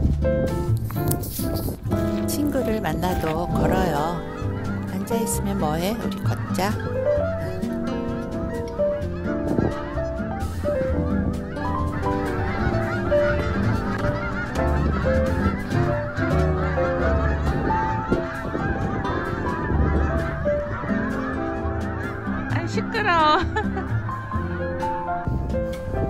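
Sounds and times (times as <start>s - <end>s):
flock of geese honking: 0.9s - 26.0s.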